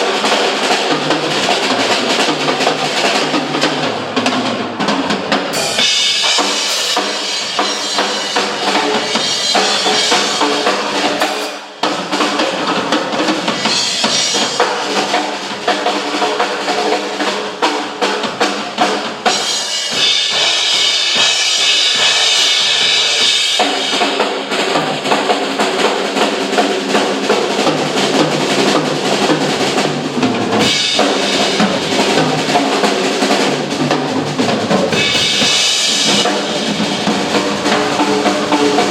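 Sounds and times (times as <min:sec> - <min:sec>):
drum kits playing fast: 0:00.0 - 0:38.9.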